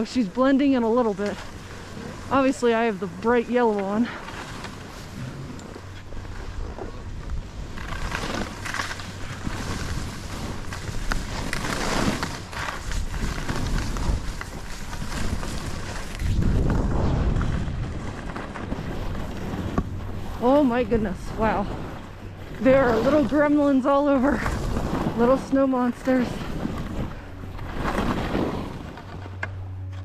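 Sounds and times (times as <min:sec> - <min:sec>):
skis swishing through snow: 0:00.0 - 0:29.9
wind on microphone: 0:04.8 - 0:29.9.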